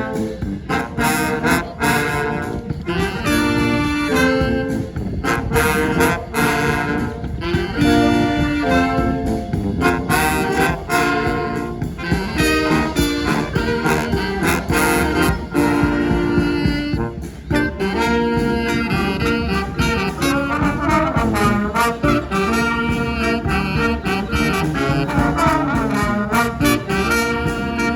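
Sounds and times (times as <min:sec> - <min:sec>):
brass band playing: 0:00.0 - 0:27.9.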